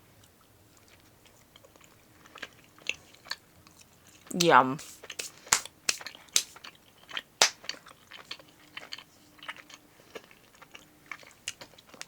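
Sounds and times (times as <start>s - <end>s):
close chewing with mouth clicks: 0.2s - 12.0s.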